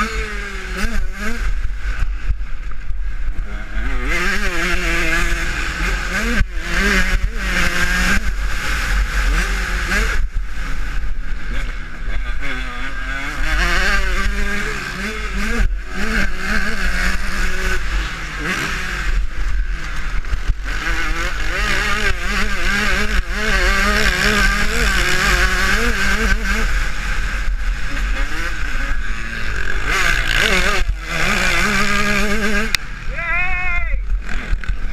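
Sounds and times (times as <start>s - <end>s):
motocross engine revving: 0.0s - 34.9s.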